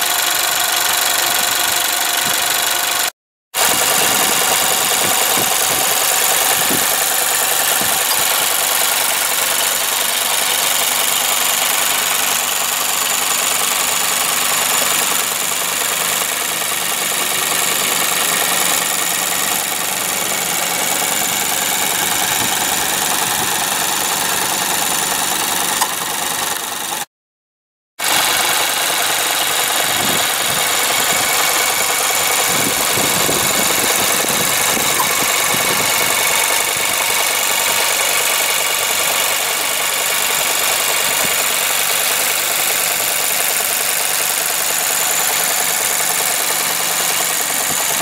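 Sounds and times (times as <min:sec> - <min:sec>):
car engine idling: 0:00.0 - 0:27.1, 0:28.0 - 0:48.0.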